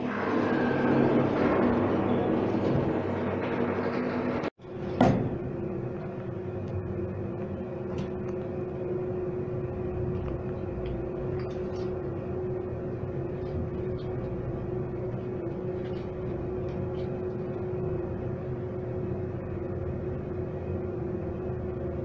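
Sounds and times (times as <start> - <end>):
lift car humming: 0.0 - 22.0.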